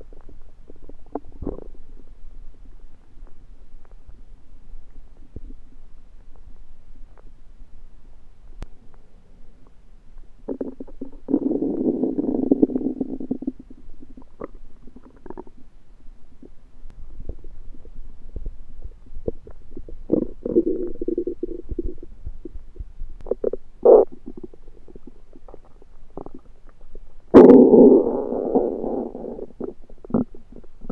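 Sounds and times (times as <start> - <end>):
stomach gurgling: 0.0 - 7.4, 10.4 - 30.9.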